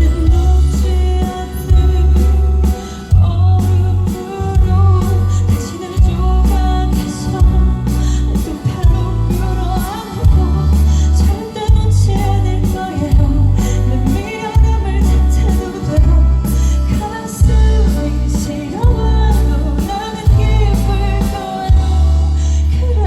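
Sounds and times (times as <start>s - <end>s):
heavy bass notes: 0.0s - 23.0s
live band playing pop ballad: 0.0s - 23.0s
woman singing: 0.0s - 23.0s.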